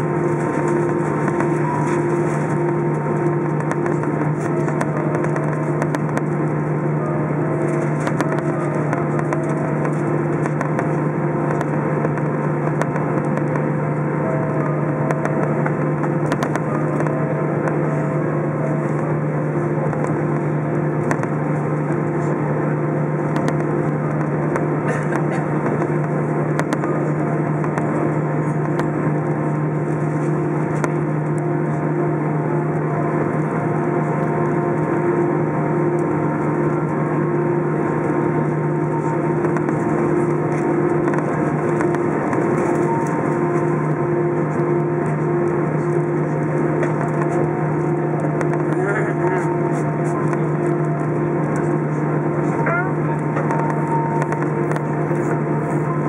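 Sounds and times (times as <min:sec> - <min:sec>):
faint steady tones: 0:00.0 - 0:56.0
jet engines idling: 0:00.0 - 0:56.0.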